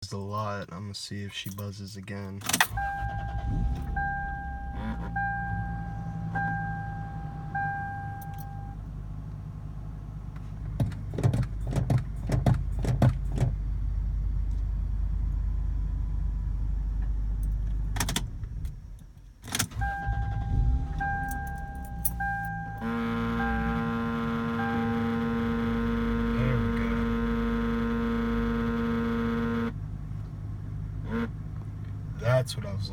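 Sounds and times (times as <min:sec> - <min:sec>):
car engine humming: 0:02.5 - 0:32.9.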